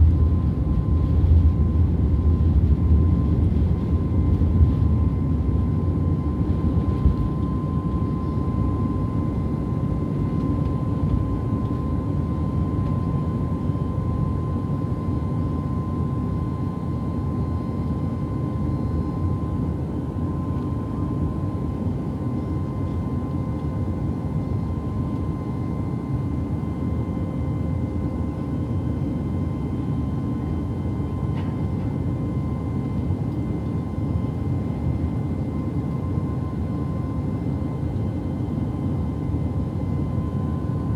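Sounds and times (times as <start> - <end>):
airliner engines and airflow rumble: 0.0 - 40.9.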